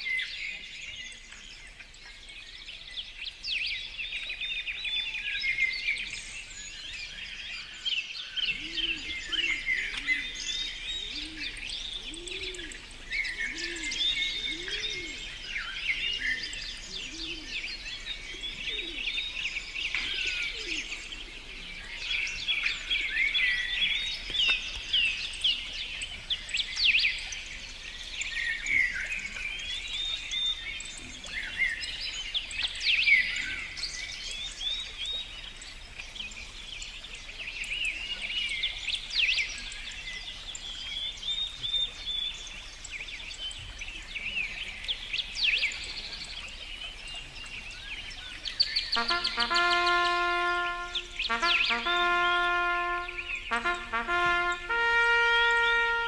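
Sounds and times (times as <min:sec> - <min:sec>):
low arching bird notes: 0:00.0 - 0:56.0
songbirds singing and chirping: 0:00.0 - 0:56.0.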